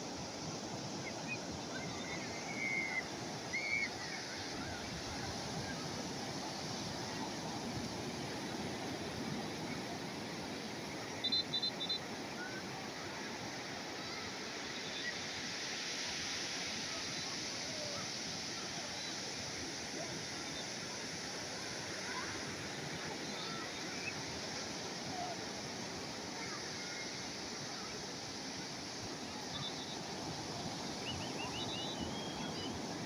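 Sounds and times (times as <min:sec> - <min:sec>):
calm sea waves: 0:00.0 - 0:33.0.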